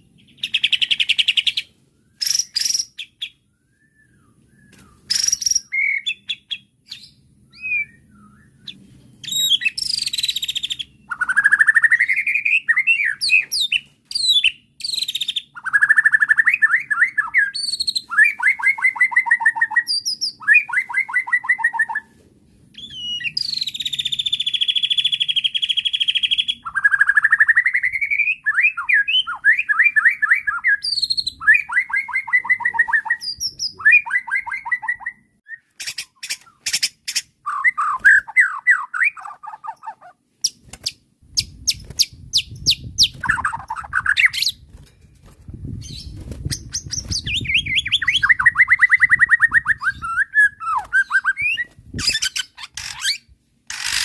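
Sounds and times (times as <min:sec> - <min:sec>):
bird singing trills and whistles: 0:00.0 - 0:22.1, 0:22.8 - 0:44.7, 0:45.8 - 0:54.0.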